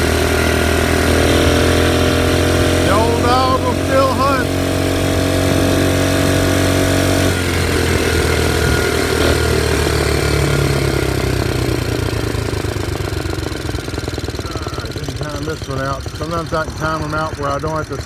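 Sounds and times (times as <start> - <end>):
motorized bicycle engine running: 0.0 - 18.0.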